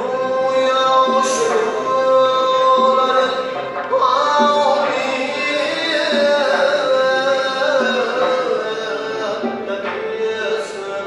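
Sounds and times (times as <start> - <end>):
man singing: 0.0 - 11.0
plucked and bowed string ensemble: 0.0 - 11.0.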